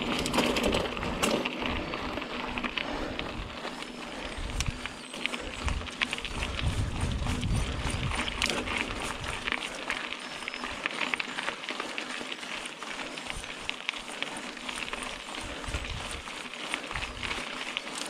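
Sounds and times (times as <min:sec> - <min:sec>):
bike clicks and rattles: 0:00.0 - 0:18.0
tyres crackling over dirt and stones: 0:00.0 - 0:18.0.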